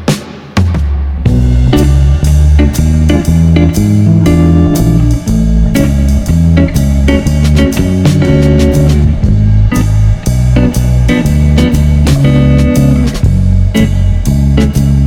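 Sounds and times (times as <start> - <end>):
rock blues music: 0.0 - 15.0.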